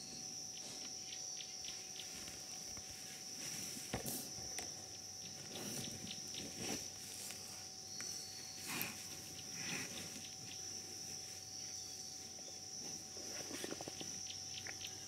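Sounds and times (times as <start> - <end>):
high insect drone: 0.0 - 15.0
rustling and scuffing in sawdust: 1.8 - 14.0.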